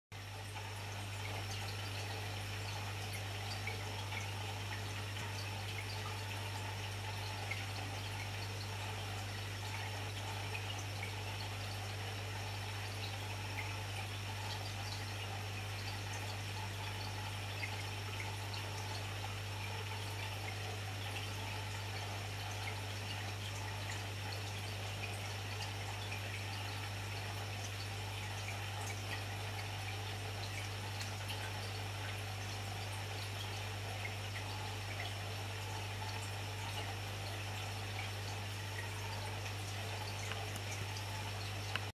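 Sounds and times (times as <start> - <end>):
aquarium air bubbles fizzing: 0.2 - 41.9.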